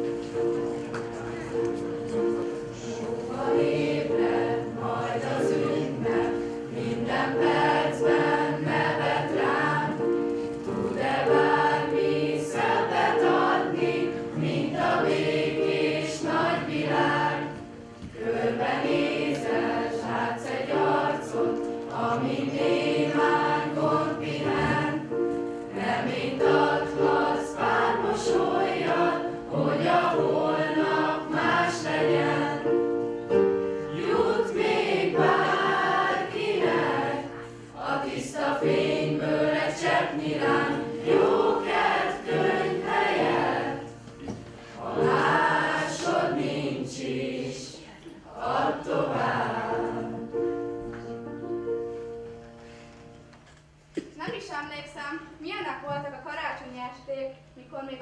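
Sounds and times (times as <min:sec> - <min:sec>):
choir singing: 0:01.4 - 0:50.8.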